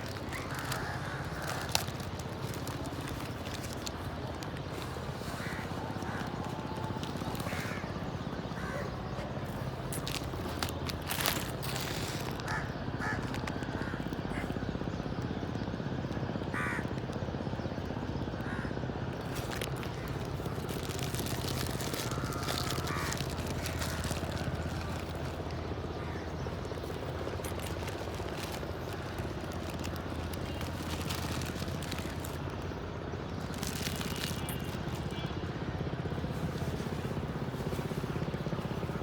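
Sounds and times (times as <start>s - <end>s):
crows cawing: 0.0s - 14.7s, 16.5s - 17.0s, 18.3s - 35.2s.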